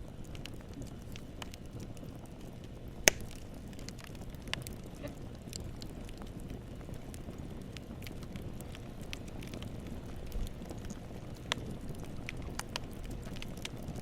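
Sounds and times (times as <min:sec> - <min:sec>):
rumble of flames: 0:00.0 - 0:14.0
wood crackling and snapping: 0:00.0 - 0:14.0.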